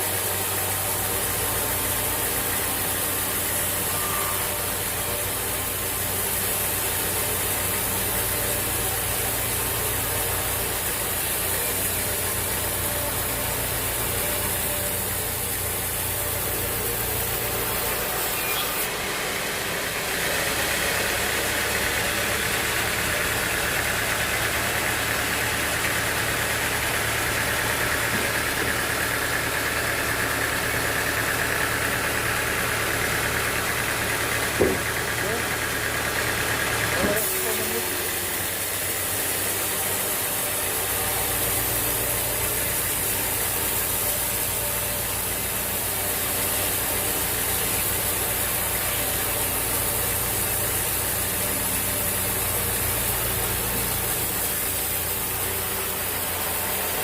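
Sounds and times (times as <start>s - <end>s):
rough high machine noise: 0.0s - 57.0s
sawmill machinery humming: 0.0s - 57.0s.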